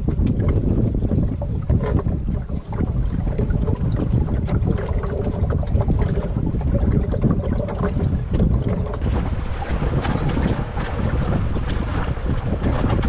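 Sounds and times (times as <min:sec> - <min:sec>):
water washing along a hull: 0:00.0 - 0:13.0
wind rumbling over microphone: 0:00.0 - 0:13.0.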